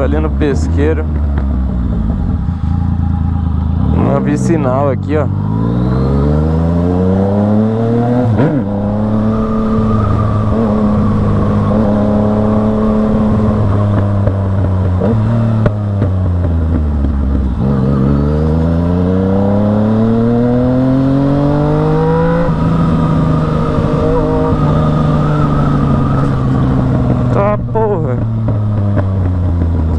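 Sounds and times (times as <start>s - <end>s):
motorcycle engine under load: 0.0s - 29.9s.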